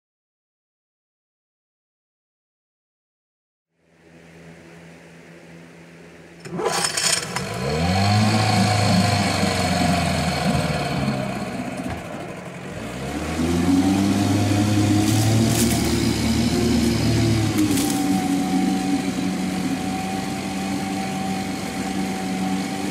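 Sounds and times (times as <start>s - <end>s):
propeller churning water: 3.8s - 22.9s
outboard motor revving: 4.4s - 22.9s.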